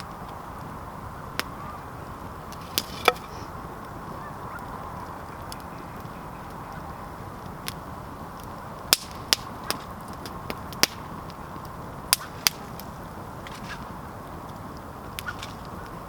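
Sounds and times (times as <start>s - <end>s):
campfire crackling and popping: 0.0s - 16.0s
steady hiss: 0.0s - 16.0s.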